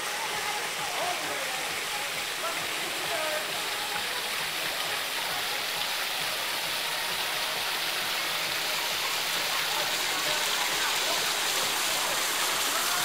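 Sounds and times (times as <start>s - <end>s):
water splashing in a fountain: 0.0s - 13.0s.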